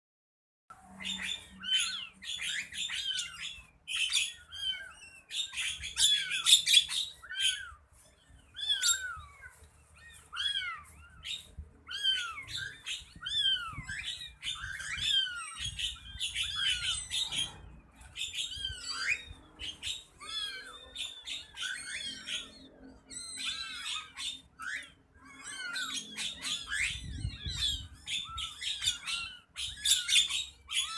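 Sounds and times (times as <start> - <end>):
small birds chirping and squawking: 0.7 - 30.9.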